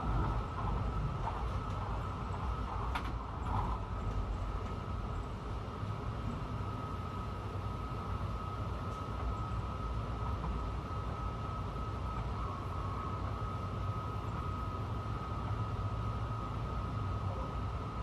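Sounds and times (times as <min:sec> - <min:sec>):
elevated train rumbling: 0:00.0 - 0:18.0.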